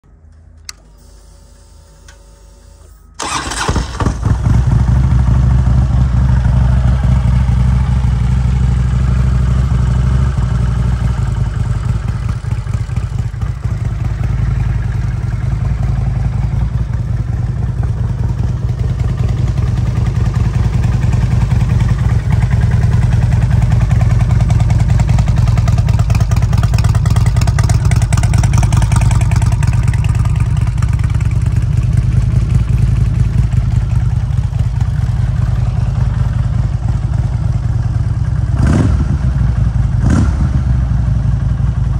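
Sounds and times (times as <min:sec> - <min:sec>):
motorcycle engine starting and running: 0:03.2 - 0:41.9.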